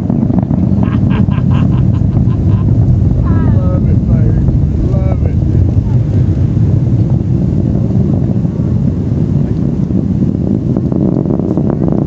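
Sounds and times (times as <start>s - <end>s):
distant rocket engines rumbling: 0.0s - 12.0s.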